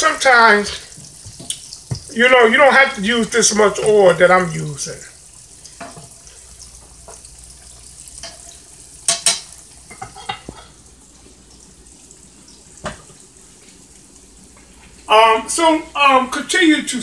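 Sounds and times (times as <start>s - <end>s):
croquettes sizzling in oil: 0.1s - 2.2s, 2.9s - 15.1s.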